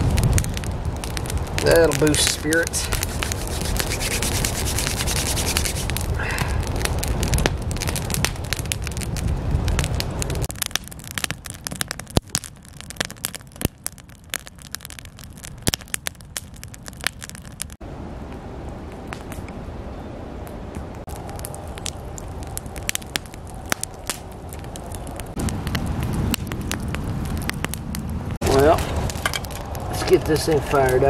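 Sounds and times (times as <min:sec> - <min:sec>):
campfire crackling and popping: 0:00.0 - 0:19.6, 0:20.4 - 0:31.0.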